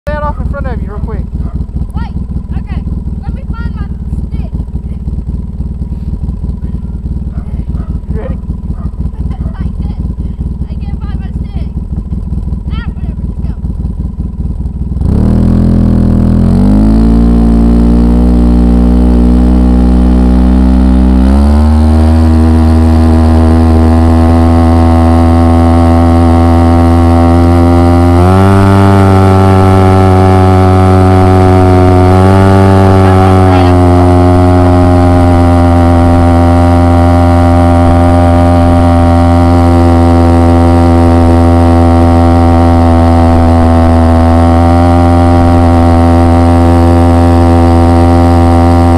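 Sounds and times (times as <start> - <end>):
small vehicle engine revving up: 0.1 - 48.9.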